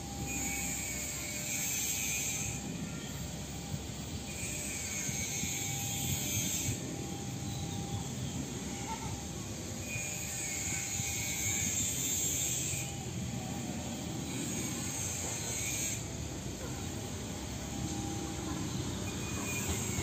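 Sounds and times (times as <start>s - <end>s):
distant electric train rumble: 0.0s - 20.0s.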